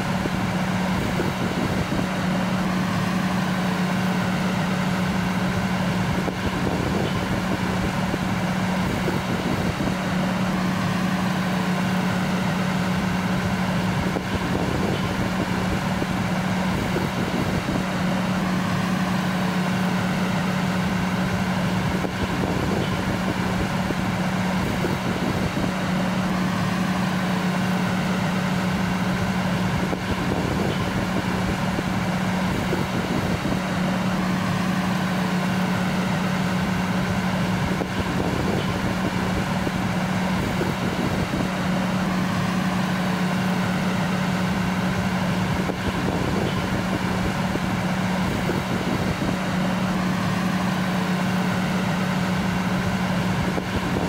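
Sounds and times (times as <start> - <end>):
fire engine idling: 0.0 - 54.0.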